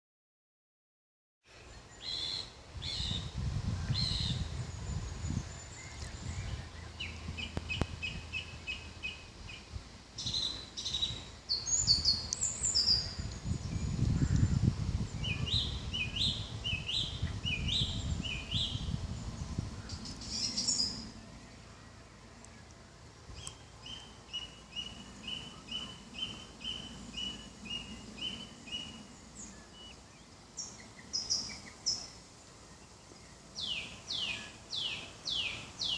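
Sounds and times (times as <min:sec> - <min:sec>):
songbirds singing trills: 0:01.5 - 0:35.9.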